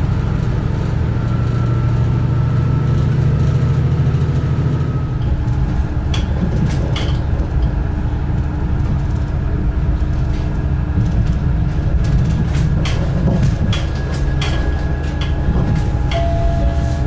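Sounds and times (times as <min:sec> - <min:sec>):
train engine and wheel rumble: 0:00.0 - 0:17.0.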